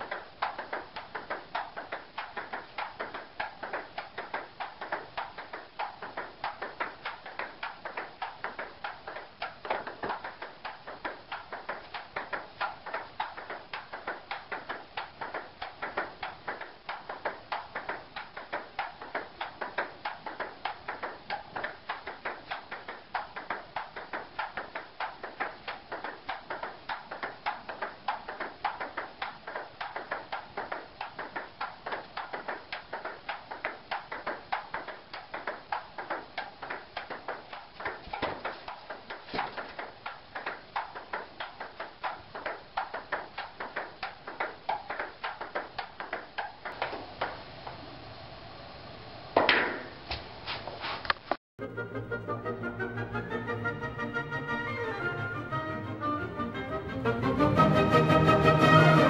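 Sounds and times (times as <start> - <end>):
table tennis ball clicks: 0.0 - 47.4.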